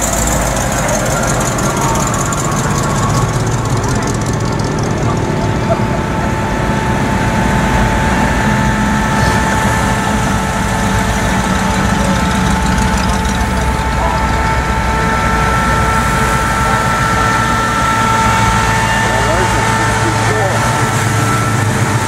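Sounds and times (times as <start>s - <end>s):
car engines low rumble: 0.0s - 22.0s
thin steady whine: 0.0s - 22.0s.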